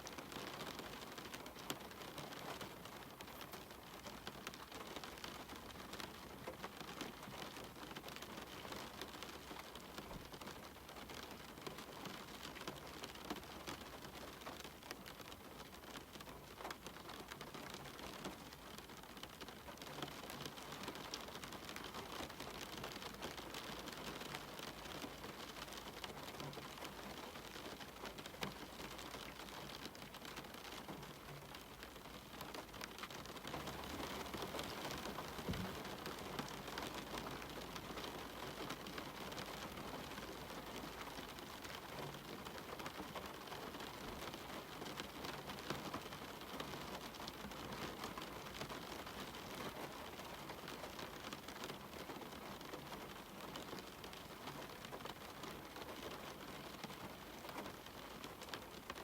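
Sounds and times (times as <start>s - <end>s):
rain falling: 0.0s - 59.0s
raindrops ticking close by: 0.0s - 59.0s.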